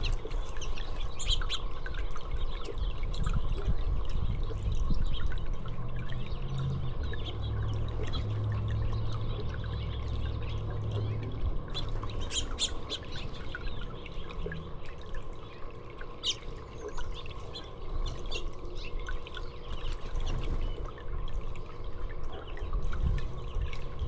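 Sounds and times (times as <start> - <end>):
songbirds chirping: 0.0 - 21.1
trickling water: 0.0 - 24.0.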